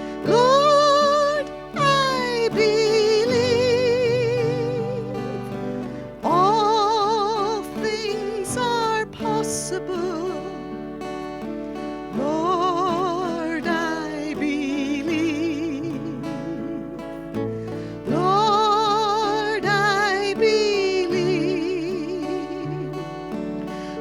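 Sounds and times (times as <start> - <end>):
lead melody with vibrato: 0.0 - 24.0.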